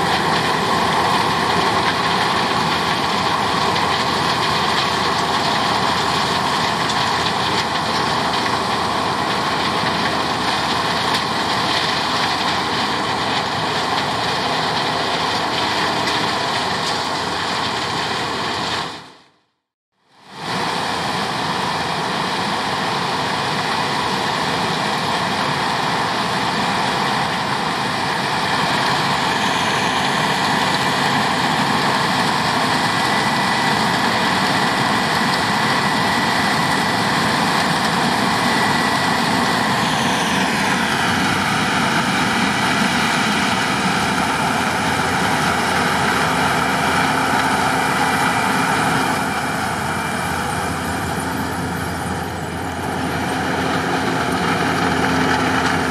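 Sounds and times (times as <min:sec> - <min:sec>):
combine harvester with high whine: 0:00.0 - 0:55.9.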